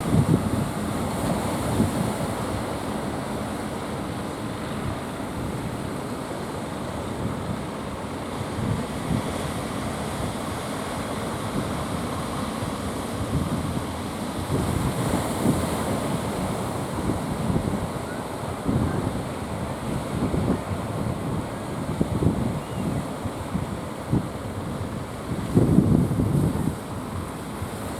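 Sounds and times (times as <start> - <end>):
wind buffeting microphone: 0.0 - 2.8, 7.0 - 27.9
sea surf: 0.0 - 27.9.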